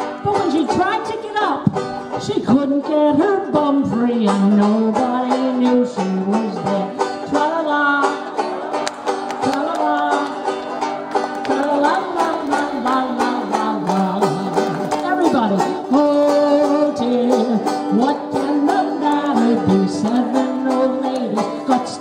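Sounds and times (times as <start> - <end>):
banjo playing: 0.0 - 22.0
person singing folk tune: 0.0 - 22.0.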